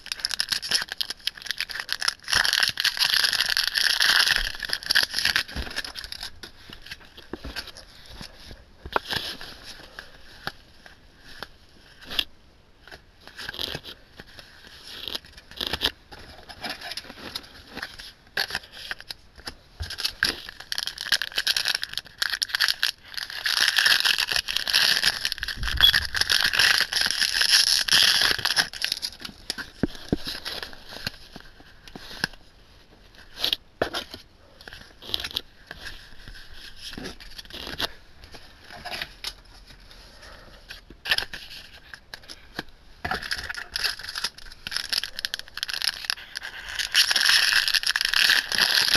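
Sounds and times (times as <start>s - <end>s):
foil pack crinkling and tearing: 0.0s - 10.6s, 13.2s - 32.4s, 33.2s - 48.9s.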